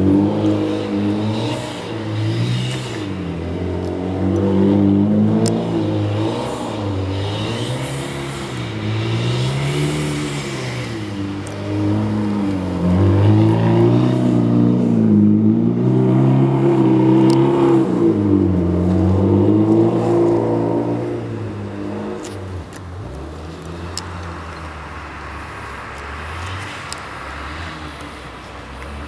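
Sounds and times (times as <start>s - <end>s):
car engine revving: 0.0s - 25.0s
tyres on snow: 0.0s - 29.0s.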